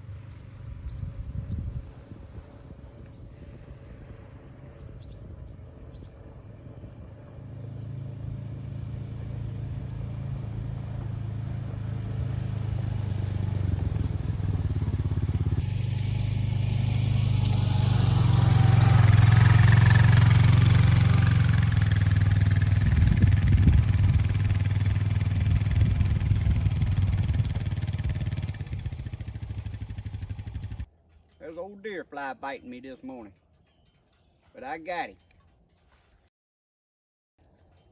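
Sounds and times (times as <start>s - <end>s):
vehicle engine humming: 0.0s - 36.2s.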